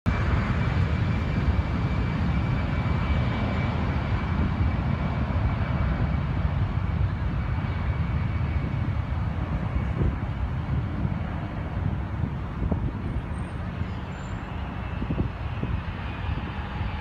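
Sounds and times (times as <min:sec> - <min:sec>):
jet airliner engines roaring: 0:00.1 - 0:17.0.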